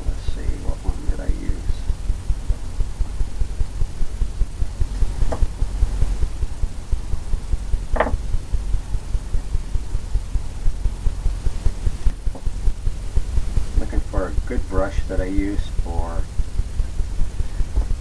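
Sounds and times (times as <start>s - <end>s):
low fluttering rumble: 0.0s - 18.0s.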